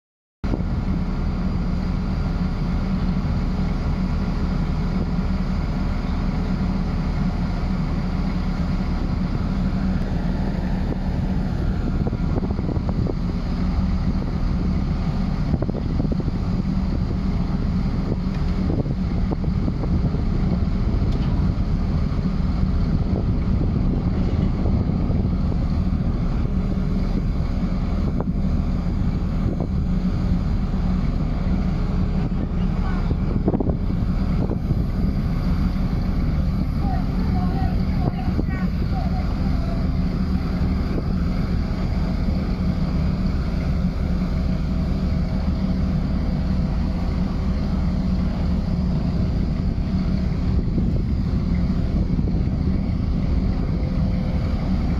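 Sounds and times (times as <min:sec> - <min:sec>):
crane diesel engine running: 0:00.4 - 0:54.9
wind noise on microphone: 0:00.4 - 0:54.9.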